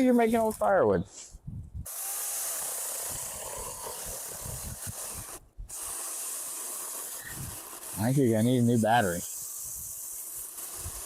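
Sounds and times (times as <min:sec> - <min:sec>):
chainsaw cutting wood: 0:01.9 - 0:11.0.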